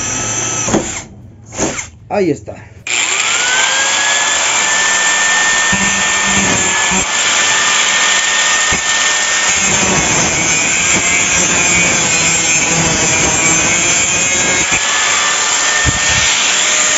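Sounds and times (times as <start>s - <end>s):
power tool high whine: 2.9s - 16.9s
rough grinding noise: 2.9s - 16.9s.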